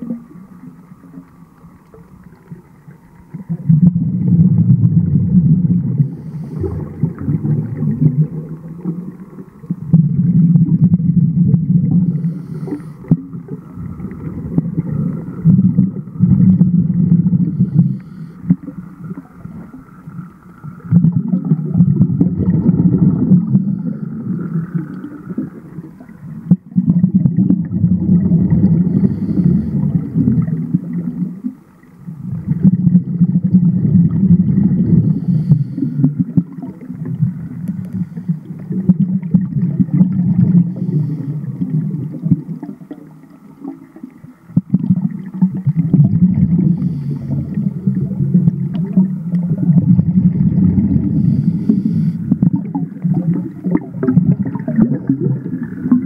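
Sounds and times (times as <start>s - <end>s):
air bubbles gurgling underwater: 0.0s - 56.0s.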